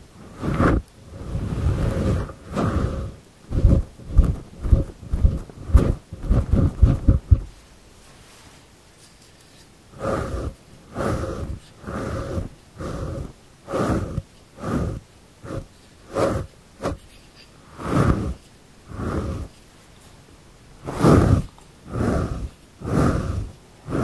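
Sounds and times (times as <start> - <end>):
fingers stroking microphone windscreen: 0.3 - 7.6, 10.0 - 20.2, 20.8 - 24.0.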